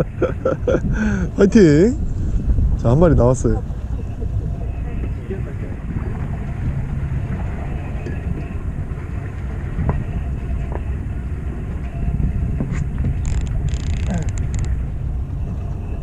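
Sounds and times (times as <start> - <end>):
boat engine rumbling: 0.0 - 16.0
water noise: 0.0 - 16.0
wind: 0.0 - 16.0.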